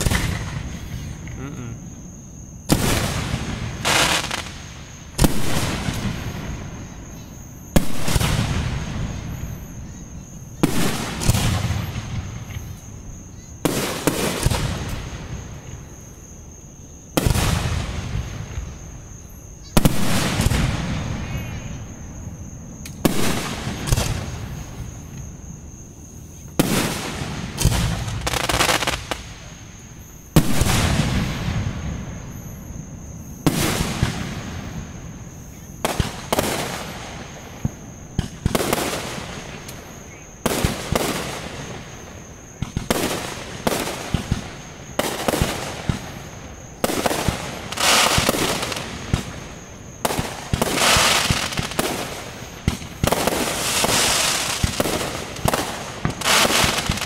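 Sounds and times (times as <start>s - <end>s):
fireworks booming with echo: 0.0s - 57.0s.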